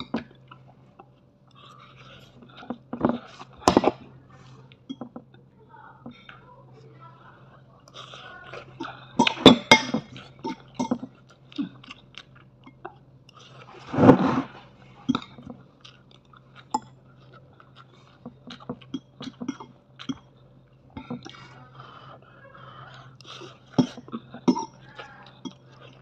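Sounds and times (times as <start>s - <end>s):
chewing and mouth noises: 0.0s - 5.5s, 7.2s - 26.0s
faint low hum: 0.0s - 26.0s.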